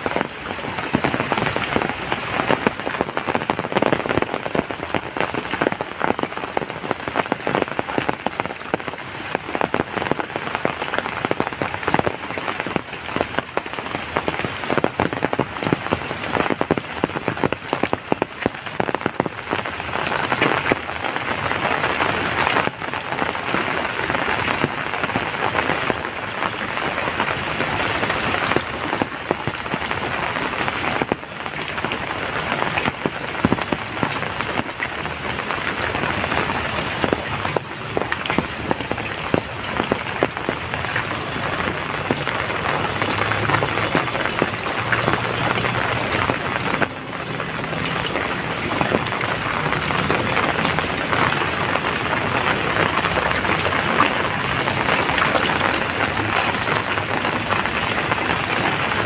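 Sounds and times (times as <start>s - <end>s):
heavy rain on a hard surface: 0.0s - 59.0s.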